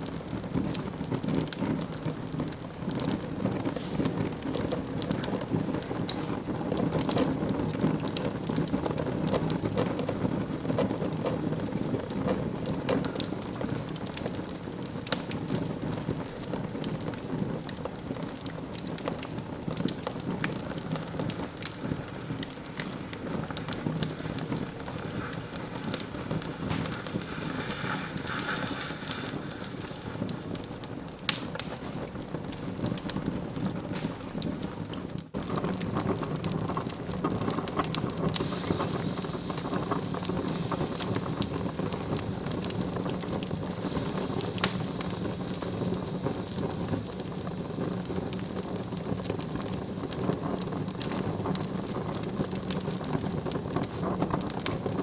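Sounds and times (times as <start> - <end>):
fire hissing: 0.0 - 55.0
wood fire crackling: 0.0 - 55.0.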